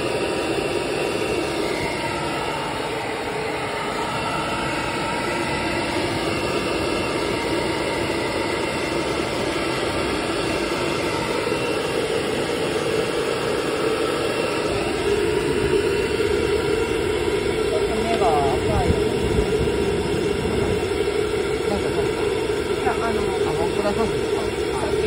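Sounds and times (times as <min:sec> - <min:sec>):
blow dryer running: 0:00.0 - 0:25.0.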